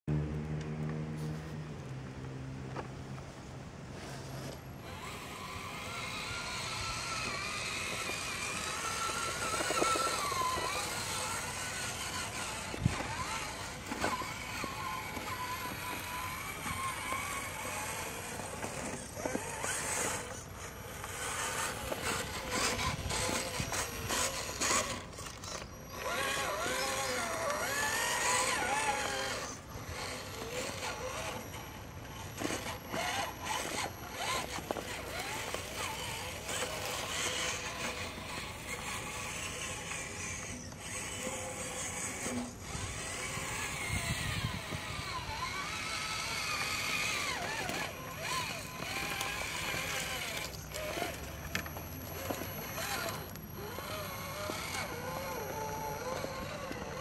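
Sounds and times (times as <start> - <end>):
toy car electric motor whining: 3.9 - 57.0.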